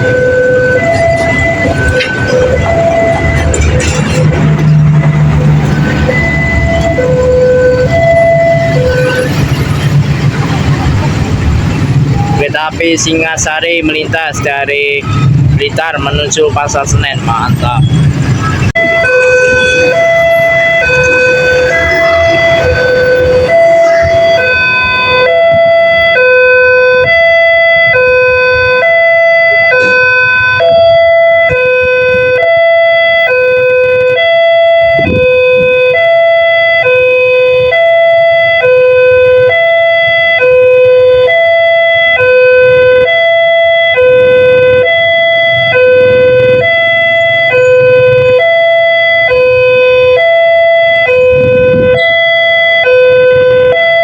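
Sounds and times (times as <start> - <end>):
two-tone crossing siren: 0.0 - 54.0.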